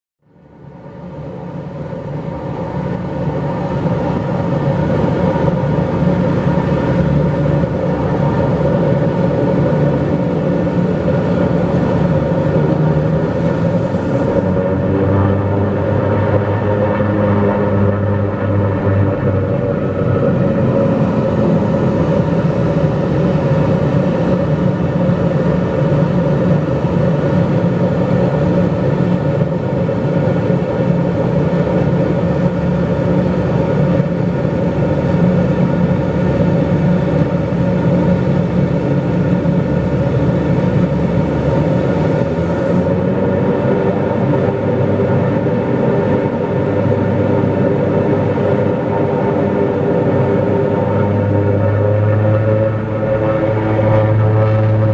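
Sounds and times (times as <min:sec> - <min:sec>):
propeller plane engine drone: 0:00.2 - 0:54.9.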